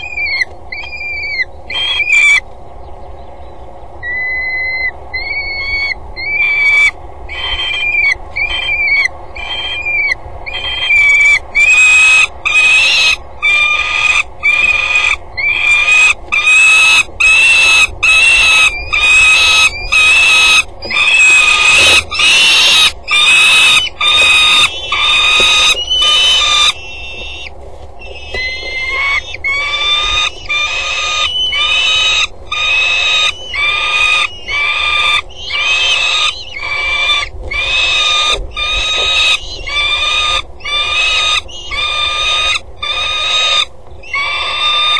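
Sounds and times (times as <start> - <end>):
falcon calling: 0.0 - 2.4, 4.0 - 44.9.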